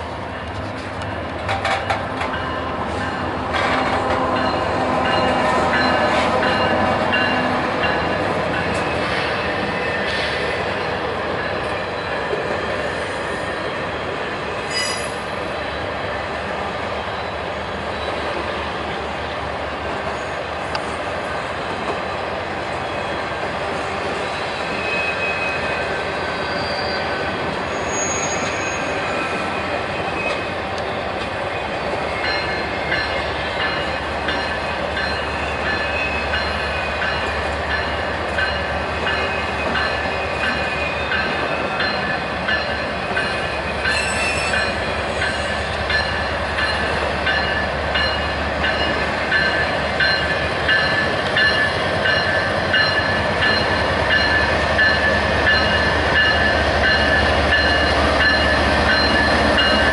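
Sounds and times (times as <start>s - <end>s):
diesel locomotives: 0.0s - 59.9s
train wheels squealing on rails: 0.0s - 59.9s.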